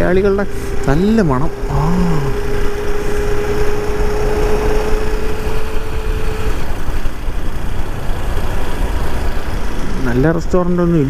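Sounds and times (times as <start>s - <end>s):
steady hum: 0.0s - 9.8s
motorcycle engine and road rumble: 0.0s - 11.0s.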